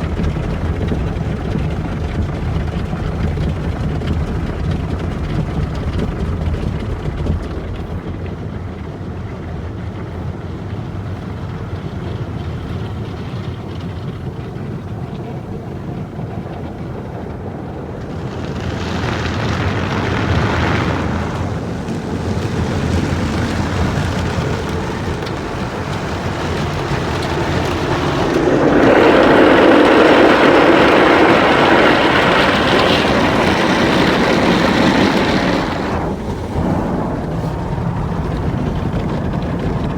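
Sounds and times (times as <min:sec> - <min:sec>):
car wash machine rumble: 0:00.0 - 0:39.9.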